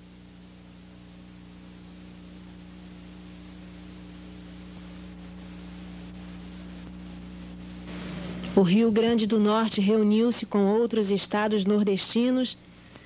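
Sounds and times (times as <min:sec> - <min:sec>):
background hiss: 0:00.0 - 0:13.0
electrical hum: 0:00.0 - 0:13.0.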